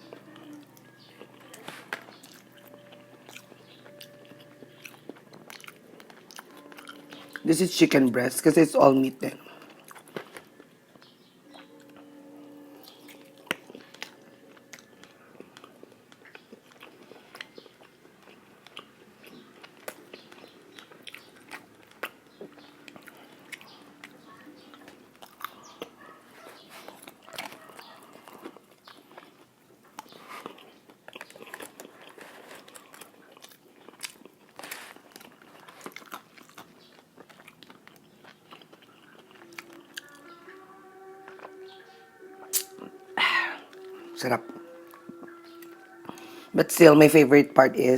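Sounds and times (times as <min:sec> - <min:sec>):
wet chewing: 0:00.0 - 0:08.1, 0:09.4 - 0:46.5
crunching fried chicken: 0:00.0 - 0:44.0.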